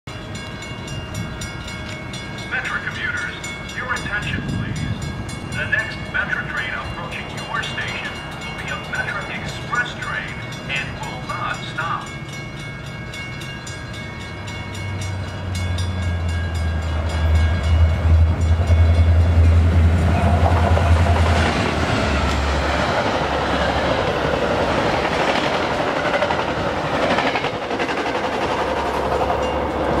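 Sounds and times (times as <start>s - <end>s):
diesel locomotive engine drone: 0.1s - 30.0s
train wheels rushing on rails: 0.1s - 30.0s.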